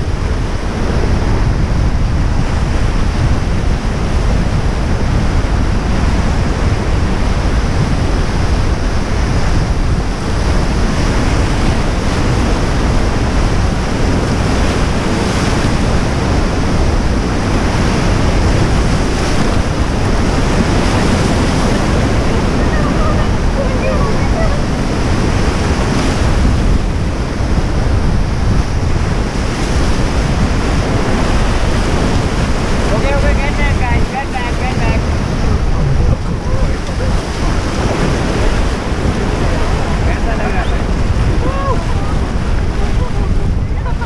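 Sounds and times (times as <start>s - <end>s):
white-water rapids roaring: 0.0s - 44.0s
wind buffeting microphone: 0.0s - 44.0s.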